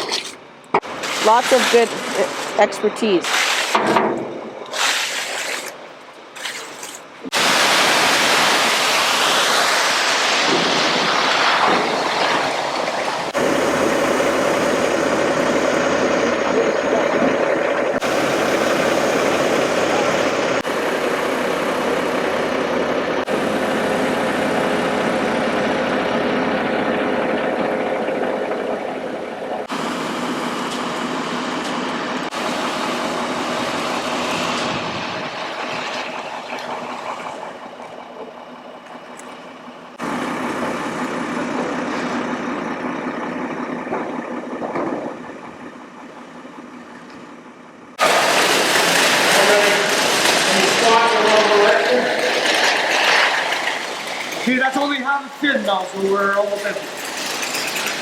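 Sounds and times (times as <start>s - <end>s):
concrete mixer truck humming: 0.0s - 58.0s.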